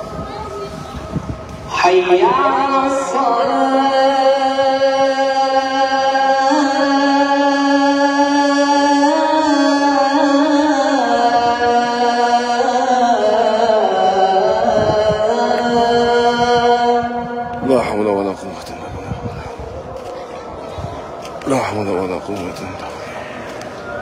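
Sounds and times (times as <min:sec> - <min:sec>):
man chanting call to prayer: 0:01.6 - 0:24.0.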